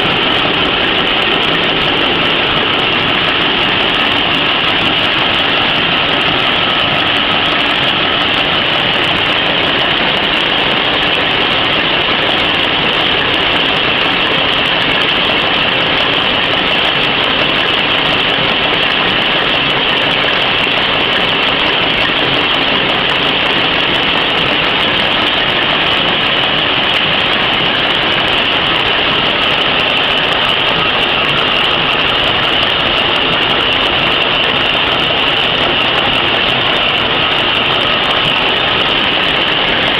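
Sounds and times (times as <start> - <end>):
napkin machine running: 0.0 - 39.9.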